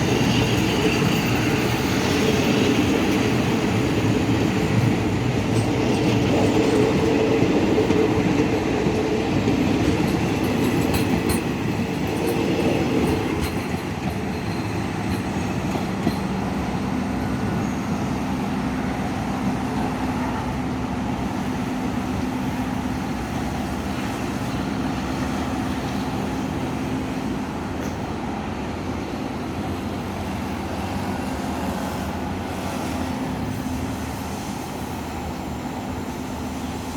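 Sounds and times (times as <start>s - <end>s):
train wheels clattering on rails: 0.0s - 36.9s.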